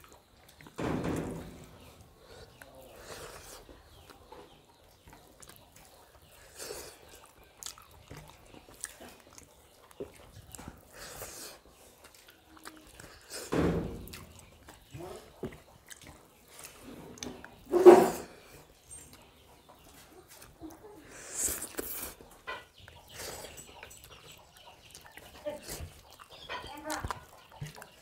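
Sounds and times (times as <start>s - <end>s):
chewing: 0.0s - 28.0s.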